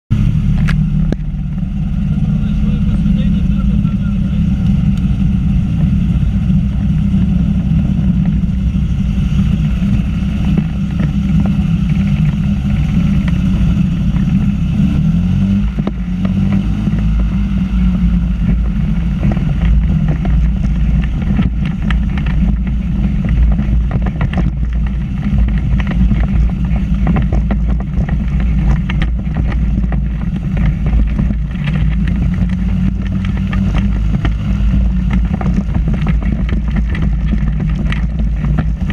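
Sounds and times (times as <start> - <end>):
engine and propeller running: 0.1 - 38.9.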